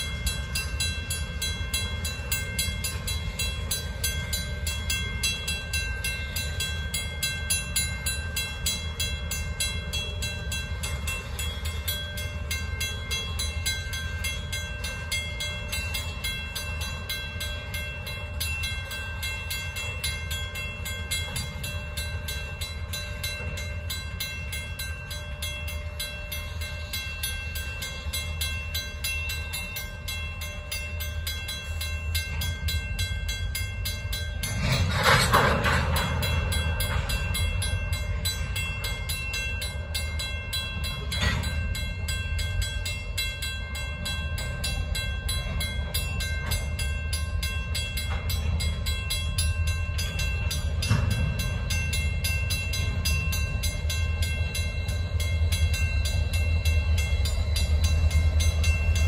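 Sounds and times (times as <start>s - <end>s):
crossing bell ringing: 0.0s - 59.0s
freight train wheels rumbling on rail: 0.0s - 59.0s.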